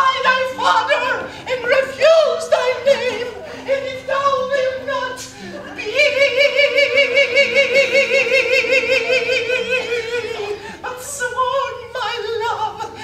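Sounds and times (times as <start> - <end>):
person singing operatic vibrato: 0.0 - 13.0.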